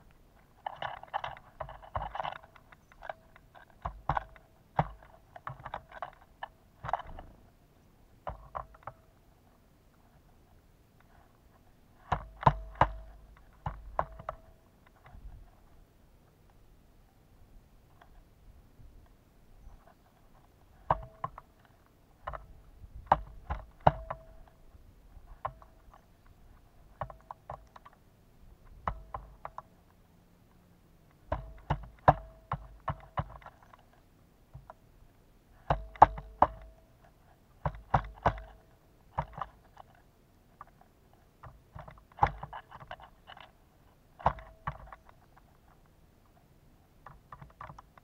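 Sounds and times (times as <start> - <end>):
woodpecker pecking: 0.0 - 15.8, 19.6 - 48.0.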